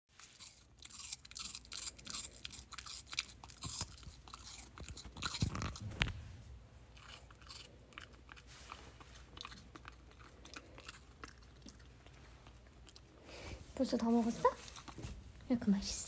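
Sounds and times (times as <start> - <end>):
puppy chewing apple: 0.1 - 15.5.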